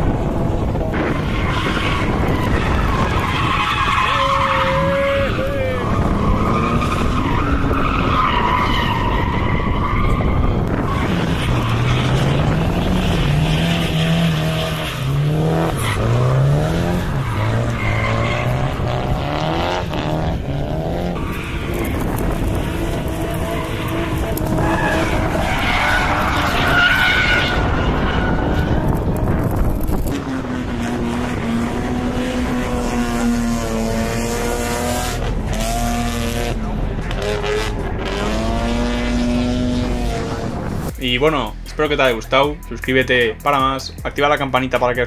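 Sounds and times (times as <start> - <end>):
car engine revving: 0.0 - 42.5
tyres skidding and squealing: 0.0 - 45.0.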